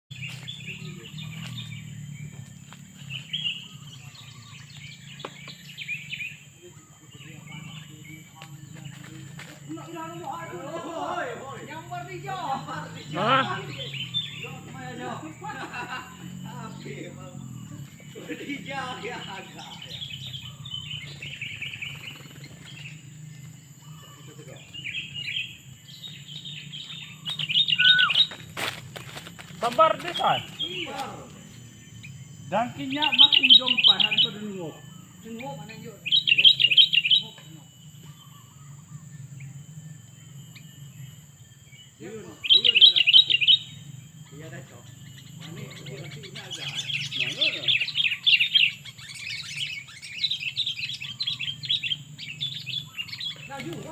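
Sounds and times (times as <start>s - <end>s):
birds chirping: 0.0s - 53.9s
steady low hum: 0.4s - 53.9s.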